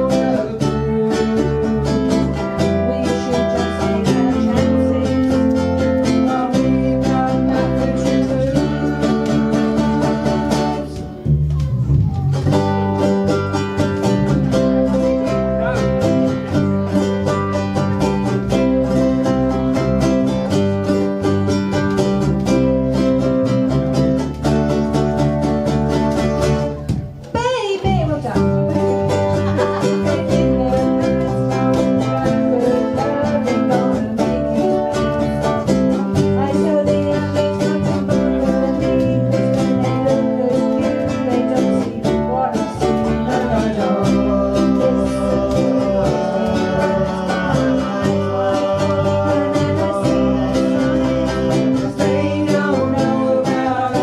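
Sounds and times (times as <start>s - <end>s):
low bass notes: 0.0s - 27.3s, 27.9s - 54.0s
acoustic band strumming ukuleles: 0.0s - 54.0s.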